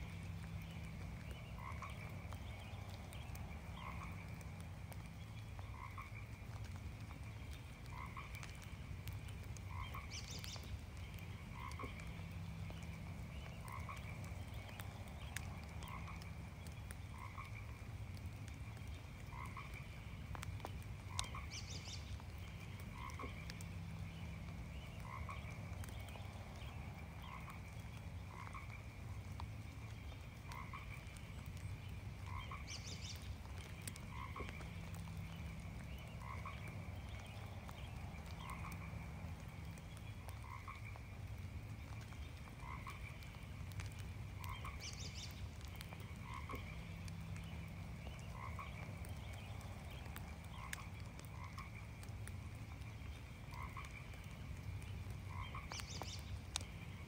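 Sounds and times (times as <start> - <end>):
frogs croaking: 0.0 - 57.0
light rain pattering: 0.0 - 57.0.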